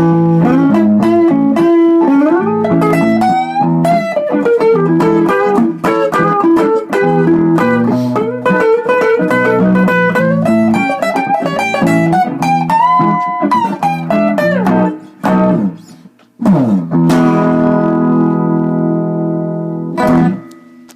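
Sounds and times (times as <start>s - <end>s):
blues guitar notes with bends: 0.0s - 20.9s.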